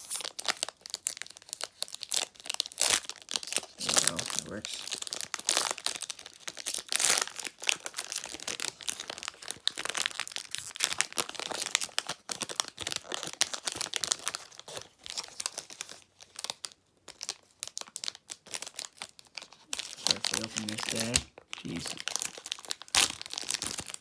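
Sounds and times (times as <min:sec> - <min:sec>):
plastic wrapper crinkling and tearing: 0:00.0 - 0:24.0.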